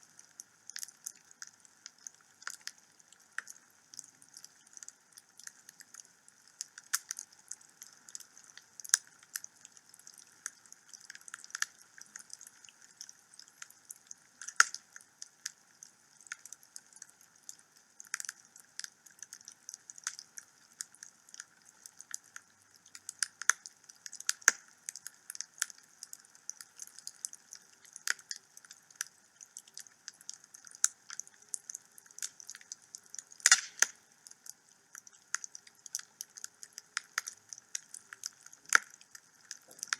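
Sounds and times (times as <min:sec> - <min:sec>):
faint fire hiss: 0:00.0 - 0:39.9
wood fire crackling and popping: 0:00.2 - 0:39.9.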